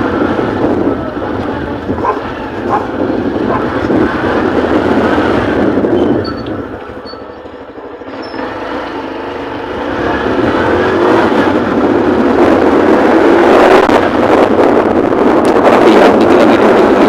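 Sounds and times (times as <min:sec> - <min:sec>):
motorbike engine accelerating: 0:00.0 - 0:17.0
wind noise on microphone: 0:00.0 - 0:17.0.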